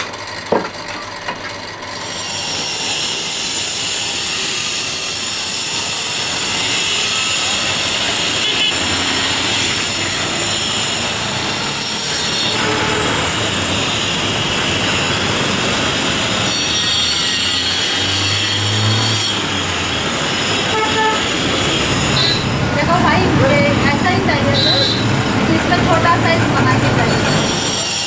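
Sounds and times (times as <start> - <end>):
traffic din: 0.0 - 28.0
high thin screeching whine: 1.9 - 25.2, 26.0 - 28.0.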